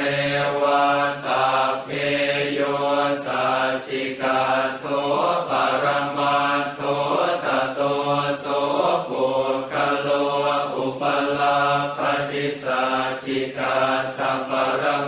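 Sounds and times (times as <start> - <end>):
monks chanting: 0.0 - 15.0.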